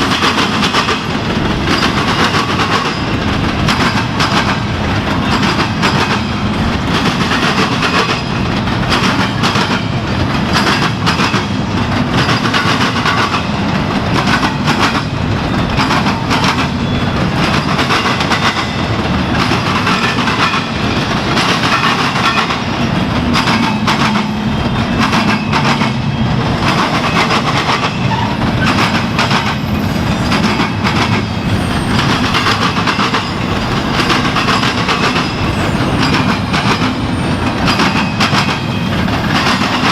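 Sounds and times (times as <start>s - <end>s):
freight train rumble: 0.0s - 39.9s
train wheels clattering over rail joints: 0.0s - 39.9s.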